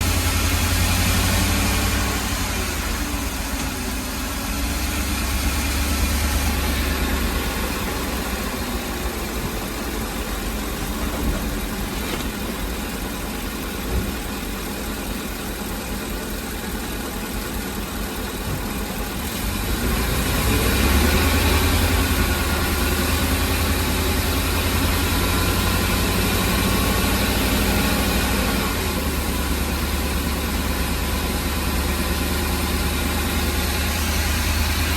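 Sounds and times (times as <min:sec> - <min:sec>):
van engine idling: 0:00.0 - 0:34.9.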